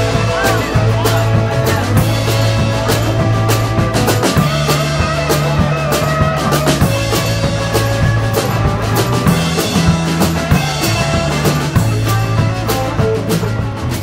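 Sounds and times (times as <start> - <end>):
drum kit hits: 0.0 - 14.0
electric bass notes: 0.0 - 14.0
electric guitars: 0.0 - 14.0.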